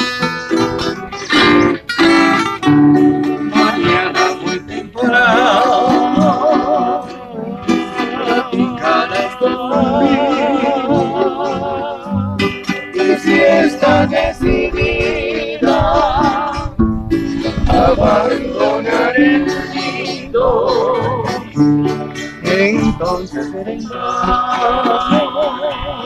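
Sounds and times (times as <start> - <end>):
acoustic guitars playing: 0.0 - 26.0
man singing: 3.4 - 16.8, 17.5 - 26.0.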